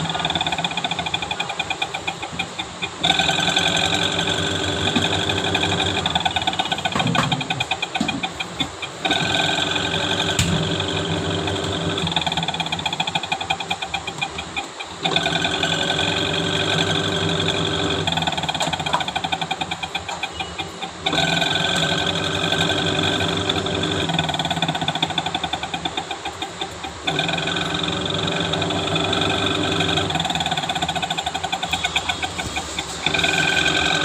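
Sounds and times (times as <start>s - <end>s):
fast rattle: 0.0s - 9.7s, 12.0s - 34.0s
washing machine motor hum: 0.0s - 34.0s.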